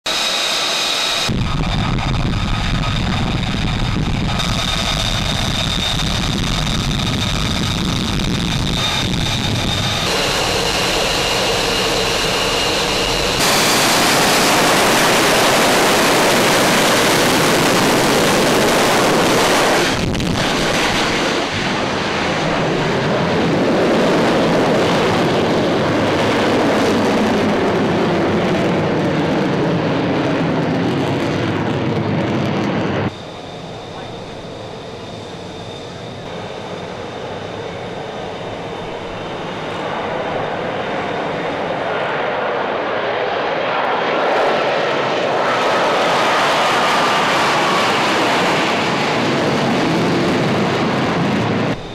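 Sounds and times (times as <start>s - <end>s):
jet engine high whine: 0.0s - 51.9s
jet engine running: 0.0s - 51.9s.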